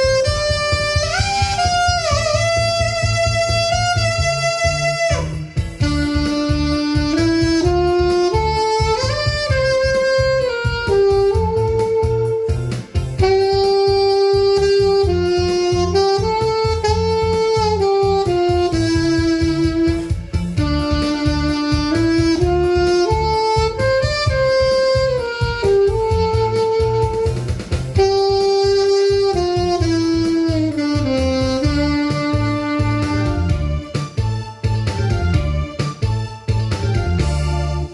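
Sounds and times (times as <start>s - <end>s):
backing track with steady beat: 0.0s - 37.9s
saxophone melody: 0.0s - 37.9s.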